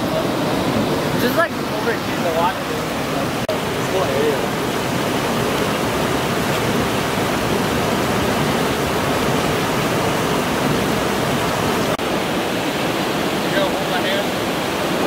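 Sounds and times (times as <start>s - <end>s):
water rushing down cascade: 0.0s - 15.0s.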